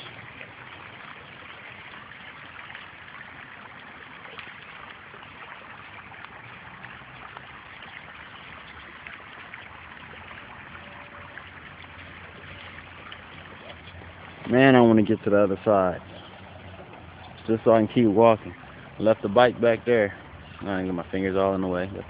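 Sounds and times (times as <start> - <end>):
stream flowing over rocks: 0.0 - 22.0.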